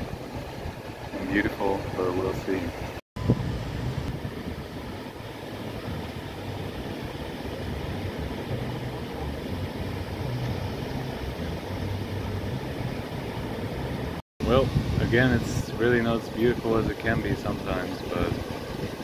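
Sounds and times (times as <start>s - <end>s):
surf breaking on a beach: 0.0s - 3.0s, 4.2s - 19.0s
wind rumble on microphone: 0.0s - 19.0s.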